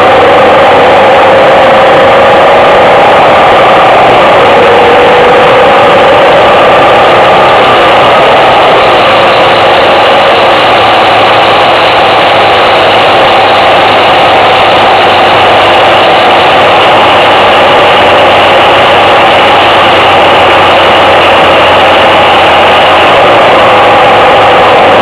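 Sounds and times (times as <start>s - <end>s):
motorcycle engine running: 0.0s - 25.0s
wind noise: 0.0s - 25.0s.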